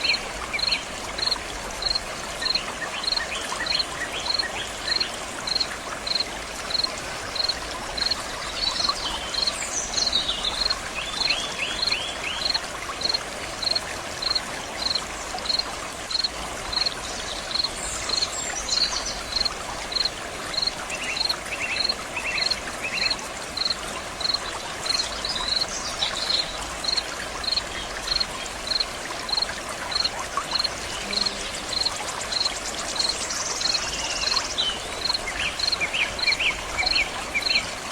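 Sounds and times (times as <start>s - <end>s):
stream water running: 0.0s - 37.9s.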